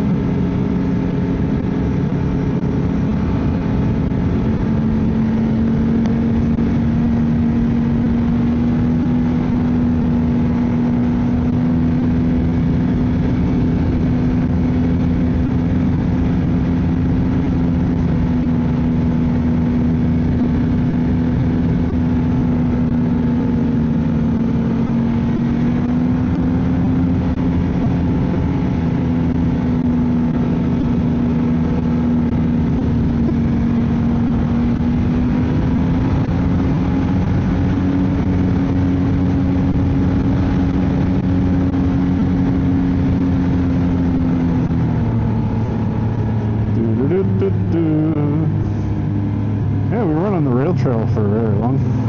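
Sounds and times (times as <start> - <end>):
snowmobile engine running: 0.0 - 52.0.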